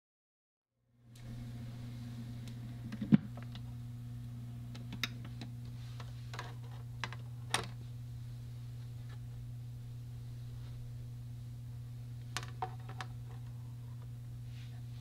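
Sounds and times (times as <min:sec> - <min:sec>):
turntable low hum: 0:01.0 - 0:15.0.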